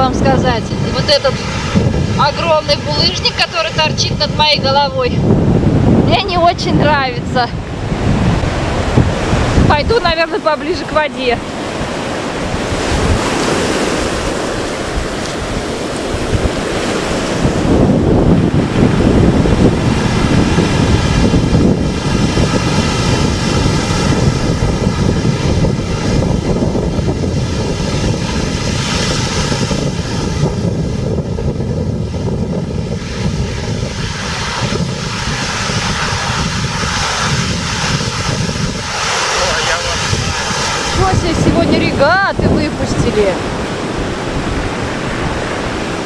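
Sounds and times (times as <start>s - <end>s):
storm waves breaking on shore: 0.0s - 46.0s
wind buffeting microphone: 0.0s - 46.0s.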